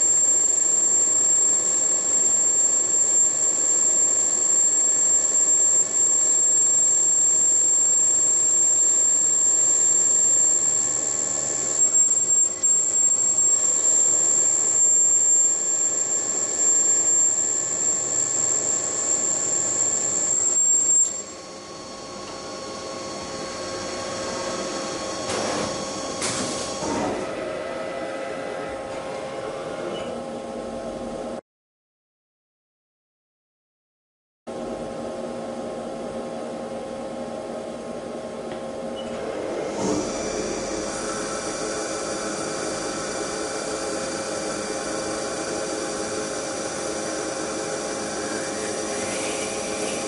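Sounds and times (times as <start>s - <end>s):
low machine hum: 0.0s - 31.4s, 34.5s - 50.0s
machine tool high whine: 0.0s - 31.4s, 38.8s - 50.0s.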